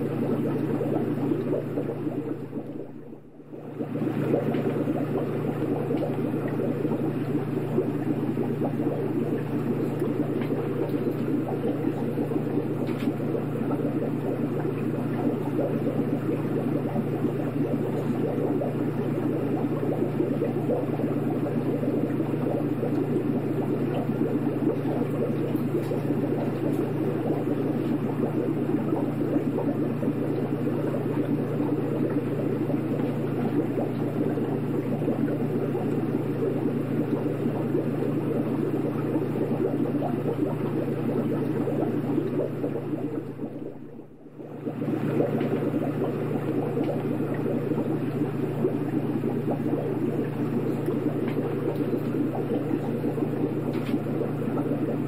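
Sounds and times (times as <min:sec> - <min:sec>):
aquarium water bubbling: 0:00.0 - 0:55.0
constant low hum: 0:00.0 - 0:55.0.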